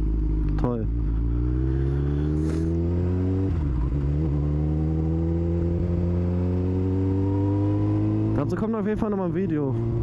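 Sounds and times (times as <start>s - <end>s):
motorcycle engine accelerating loudly: 0.0s - 10.0s.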